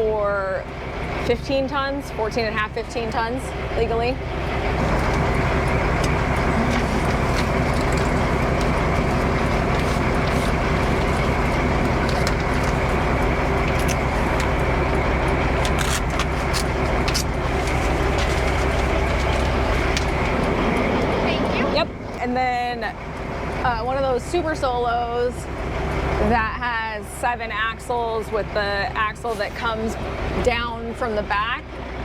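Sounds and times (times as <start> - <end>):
road noise: 0.0 - 32.0
truck engine drone: 0.0 - 32.0.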